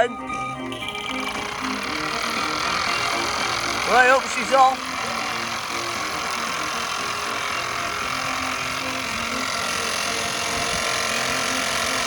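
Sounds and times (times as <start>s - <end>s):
miniature steam engine running: 0.0s - 12.0s
steam hissing: 0.9s - 12.0s.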